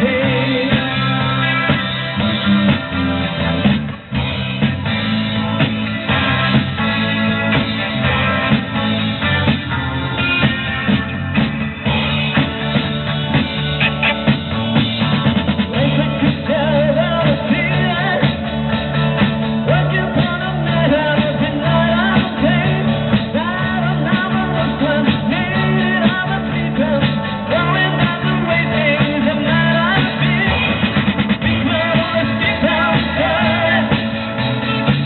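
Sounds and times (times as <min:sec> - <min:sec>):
drums: 0:00.0 - 0:35.0
lead singer: 0:00.0 - 0:35.0
steady bass line: 0:00.0 - 0:35.0.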